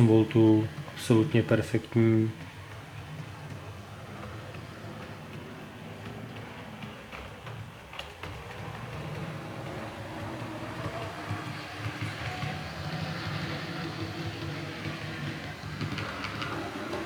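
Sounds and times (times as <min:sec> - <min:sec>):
wheel and rail noise: 0:00.0 - 0:17.0
model train motor hum: 0:02.1 - 0:17.0.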